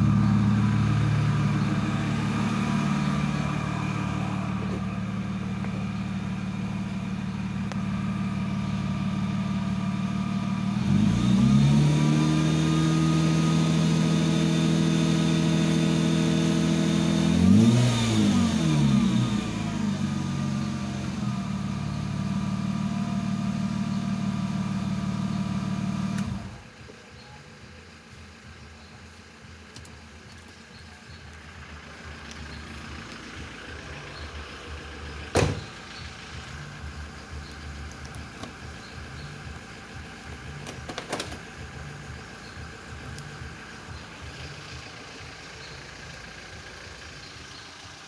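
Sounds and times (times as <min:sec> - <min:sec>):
car engine idling and revving: 0:00.0 - 0:48.0.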